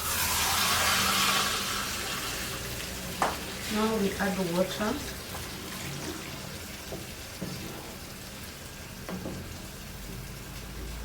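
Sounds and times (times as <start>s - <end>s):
water pouring into a pot: 0.0s - 11.0s.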